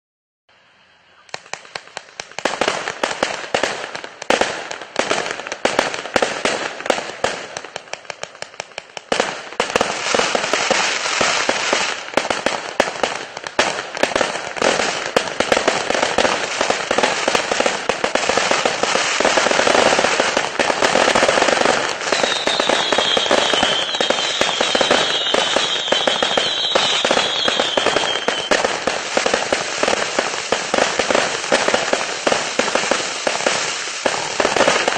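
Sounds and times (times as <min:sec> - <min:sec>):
fireworks cracking barrage: 0:01.1 - 0:34.9.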